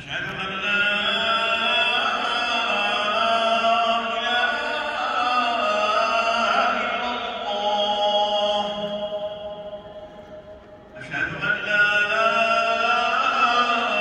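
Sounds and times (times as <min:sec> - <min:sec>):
man chanting recitation: 0:00.0 - 0:09.8, 0:11.0 - 0:14.0.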